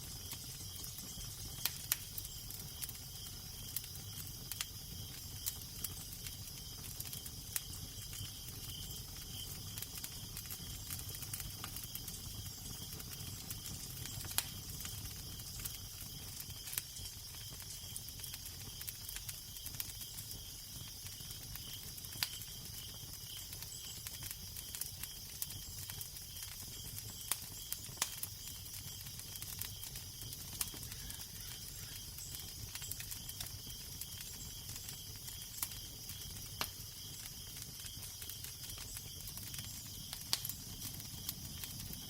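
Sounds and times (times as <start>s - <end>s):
fire crackling and popping: 0.0s - 42.0s.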